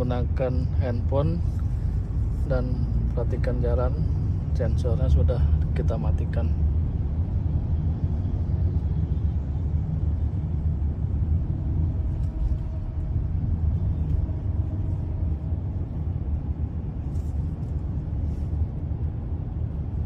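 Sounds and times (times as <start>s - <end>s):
car interior low rumble: 0.0s - 20.0s.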